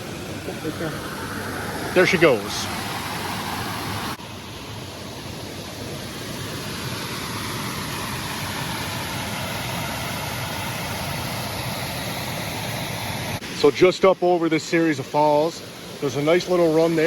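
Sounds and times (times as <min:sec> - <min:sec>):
water rushing over small falls: 0:00.0 - 0:17.0.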